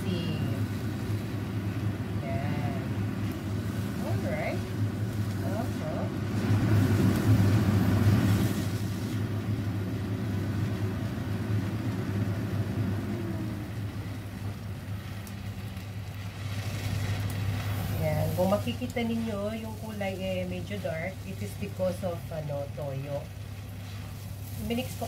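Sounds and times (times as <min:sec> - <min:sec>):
noodles stir-frying in a wok: 0:00.0 - 0:25.0
steady low hum: 0:00.0 - 0:25.0.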